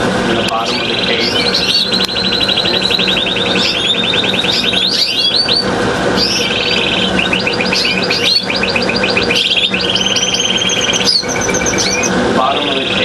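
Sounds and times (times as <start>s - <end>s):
canaries singing: 0.0s - 13.0s
steady low hum: 0.0s - 13.0s.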